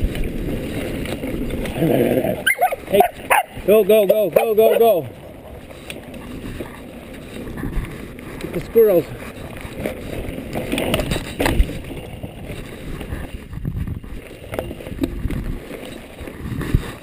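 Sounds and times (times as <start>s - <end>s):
bike knocking and rattling: 0.0s - 17.0s
tyres rumbling over dirt: 0.0s - 17.0s
wind buffeting microphone: 0.0s - 17.0s.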